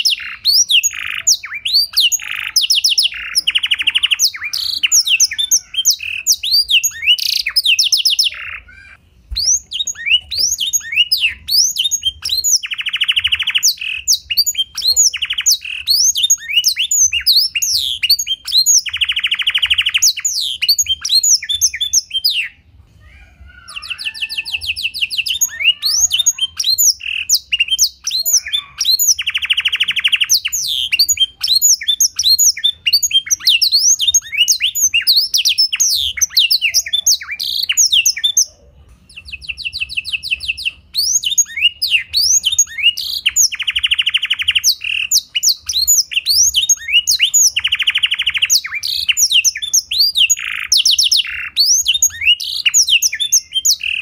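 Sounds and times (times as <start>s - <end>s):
canary singing chirps and trills: 0.0s - 54.0s.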